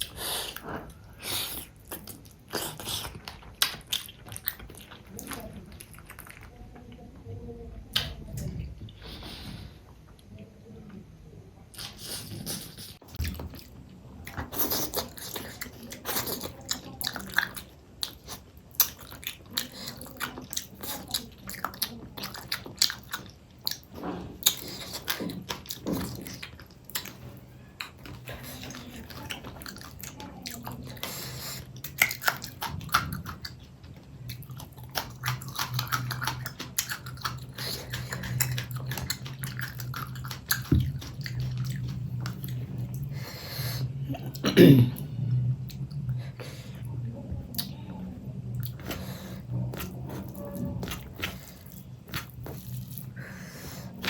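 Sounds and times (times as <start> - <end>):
person chewing with wet clicks: 0.0 - 6.6, 11.7 - 43.3, 44.2 - 54.0
low steady hum: 0.0 - 54.0.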